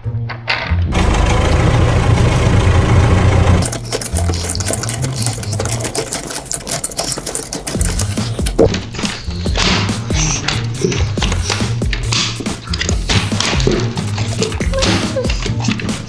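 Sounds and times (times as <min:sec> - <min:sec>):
fast mechanical rattle: 0:00.9 - 0:16.0.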